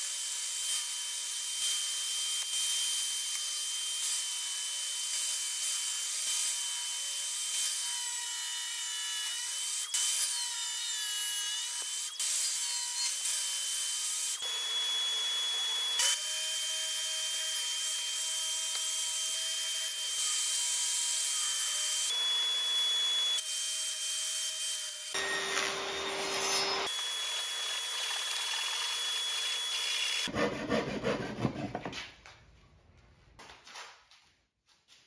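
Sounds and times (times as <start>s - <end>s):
table saw cutting wood: 0.0s - 31.9s.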